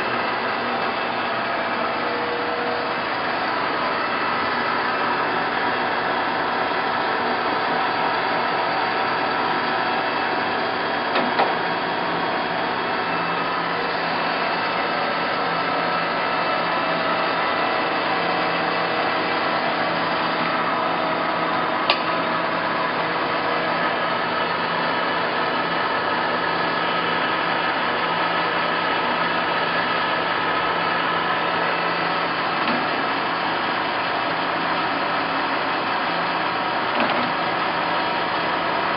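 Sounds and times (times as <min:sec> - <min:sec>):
lathe running: 0:00.0 - 0:38.9.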